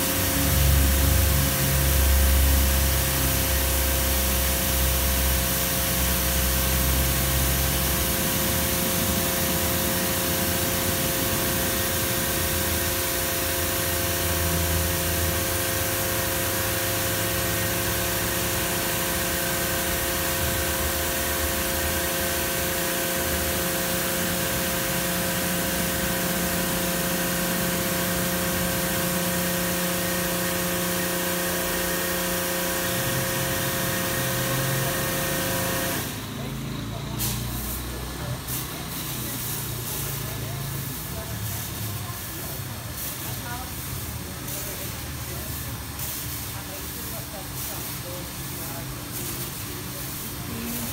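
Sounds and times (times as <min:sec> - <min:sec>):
pump and motors whining: 0:00.0 - 0:43.2.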